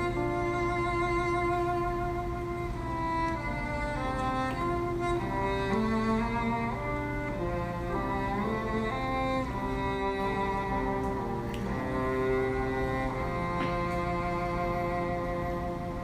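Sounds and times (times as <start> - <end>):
bowed strings melody: 0.0 - 16.0.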